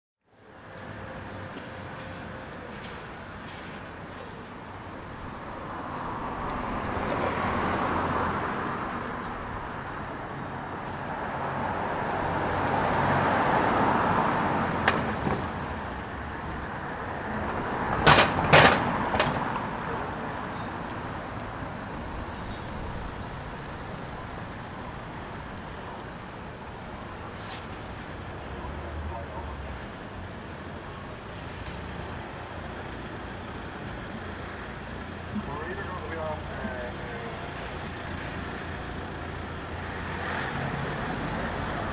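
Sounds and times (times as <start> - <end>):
background traffic hum: 0.3 - 41.9
vehicles passing close by: 0.3 - 41.9.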